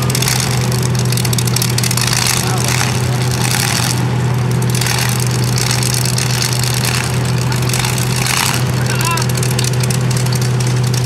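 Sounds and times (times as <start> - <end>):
engines idling: 0.0 - 11.0.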